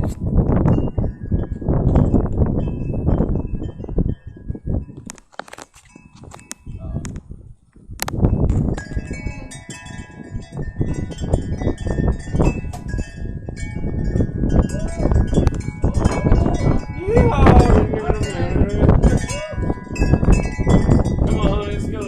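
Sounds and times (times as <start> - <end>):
metal wind chimes ringing: 0.0 - 5.1, 5.8 - 7.0, 8.2 - 22.0
gusty wind: 0.0 - 22.0.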